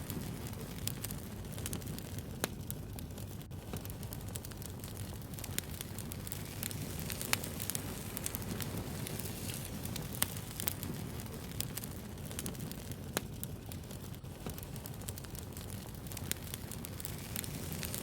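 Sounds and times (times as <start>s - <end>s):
fire crackles and pops: 0.0s - 18.0s
wood fire rumble: 0.0s - 18.0s.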